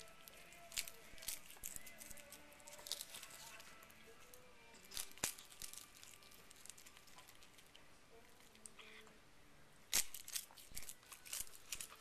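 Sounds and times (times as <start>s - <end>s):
cat chewing dried seaweed: 0.0s - 9.1s, 9.9s - 12.0s.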